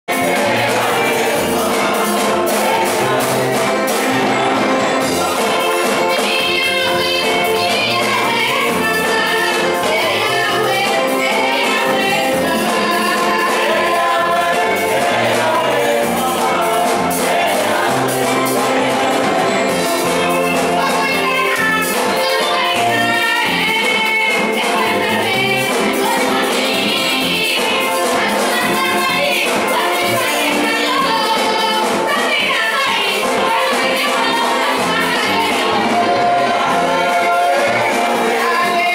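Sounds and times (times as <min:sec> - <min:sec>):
backing singers: 0:00.1 - 0:38.9
drums: 0:00.1 - 0:38.9
keyboard: 0:00.1 - 0:38.9
woman singing lead: 0:05.0 - 0:38.9.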